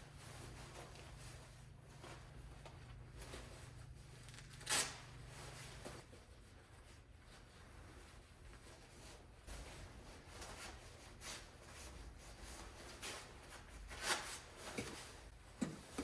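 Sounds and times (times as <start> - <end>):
low steady hum: 0.0 - 13.8
clothing rustling: 0.0 - 16.0.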